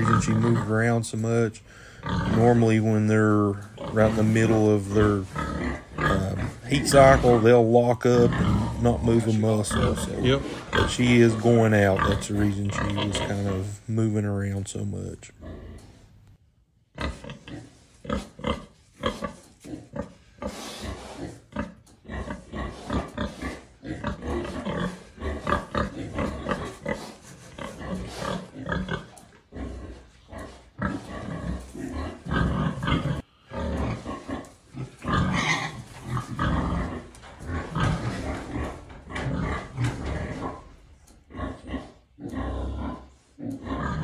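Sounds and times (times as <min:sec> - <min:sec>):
pigs grunting: 0:00.0 - 0:13.9, 0:15.2 - 0:16.1, 0:16.9 - 0:44.0.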